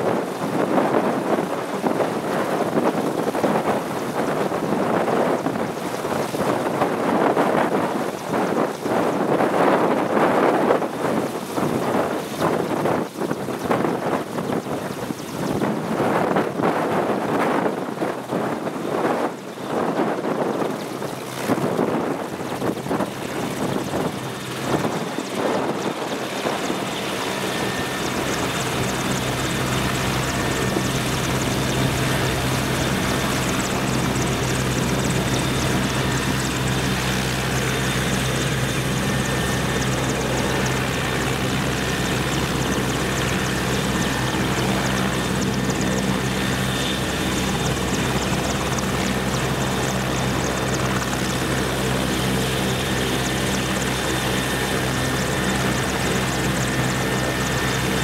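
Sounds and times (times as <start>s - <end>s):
helicopter rotor thrum: 0.0s - 58.0s
helicopter turbine whine: 0.0s - 58.0s.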